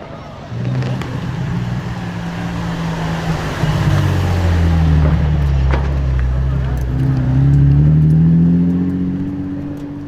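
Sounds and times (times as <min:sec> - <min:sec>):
sports car engine revving: 0:00.5 - 0:10.0.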